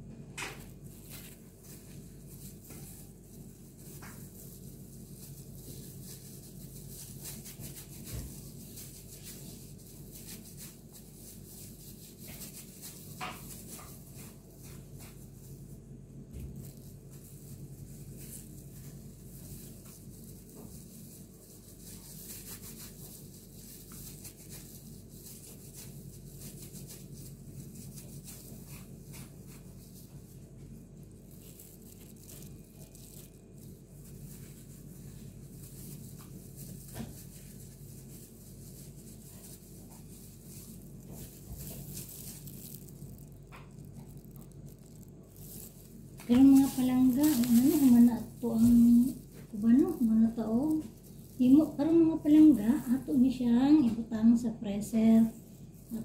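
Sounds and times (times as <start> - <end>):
steady low hum: 0.0 - 56.0
plastic gloves rustling: 0.5 - 56.0.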